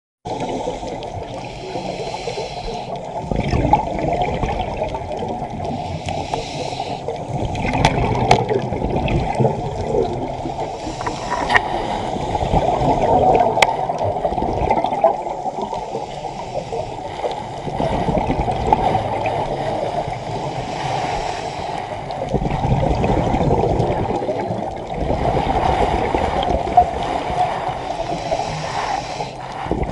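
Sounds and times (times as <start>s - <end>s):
sea water splashing: 0.3s - 29.9s.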